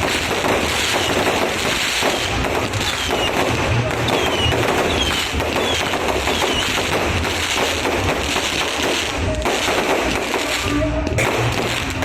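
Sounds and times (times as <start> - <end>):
falling firework whistles: 0.0 - 12.0
fireworks crackling: 0.0 - 12.0.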